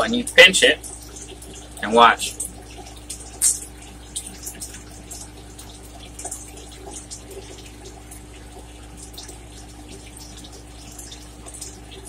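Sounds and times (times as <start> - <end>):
steady low hum: 0.0 - 12.0
wet eating sounds: 0.3 - 12.0.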